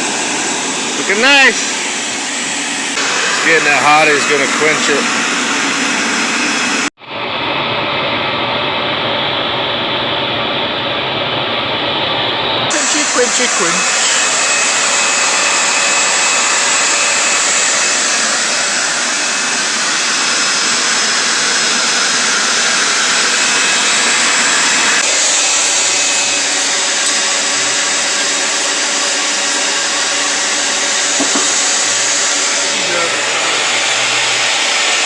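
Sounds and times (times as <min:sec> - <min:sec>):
forge rushing noise: 0:00.0 - 0:35.0.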